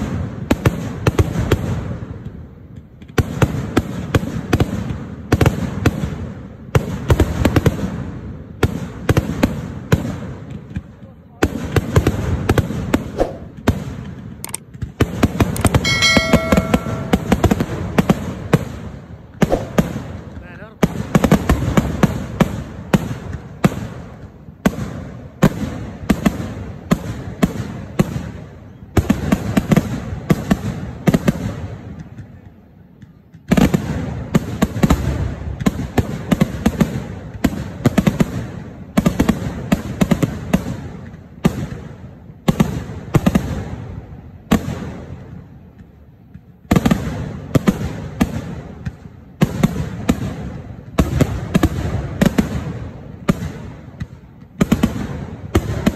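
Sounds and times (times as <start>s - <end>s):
fireworks barrage of loud bangs: 0.0s - 55.9s.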